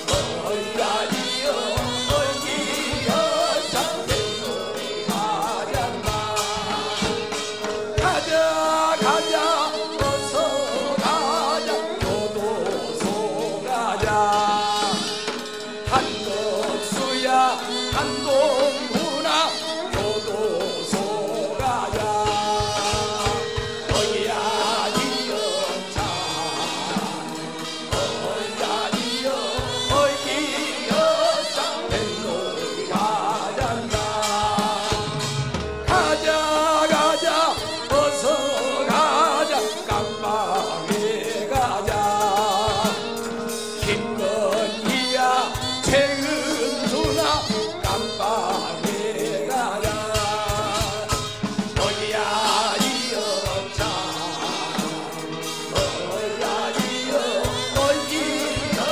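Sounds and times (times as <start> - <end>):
drums beating time: 0.0 - 58.9
man singing lead: 0.0 - 58.9
voices joining in singing: 0.0 - 58.9.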